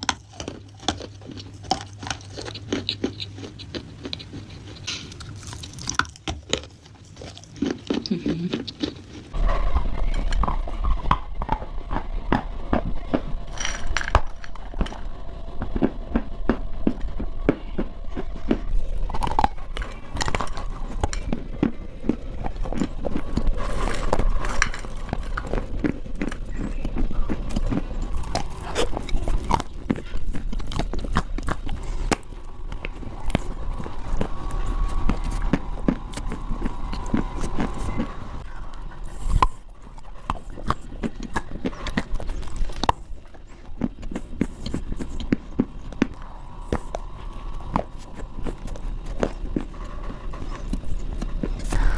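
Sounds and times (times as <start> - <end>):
clay being chewed crunching: 0.0 - 9.5, 10.1 - 51.9.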